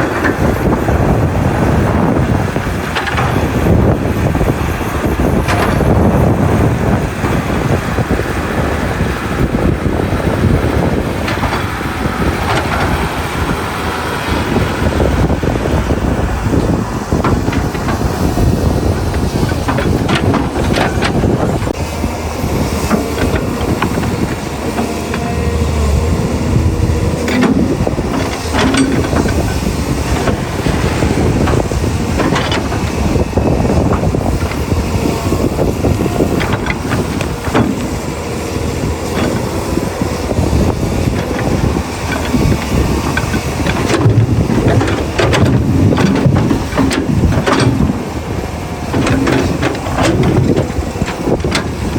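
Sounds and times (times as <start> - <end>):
digging knocks and clanks: 0.0 - 8.1, 10.4 - 51.9
excavator diesel engine running: 0.0 - 51.9.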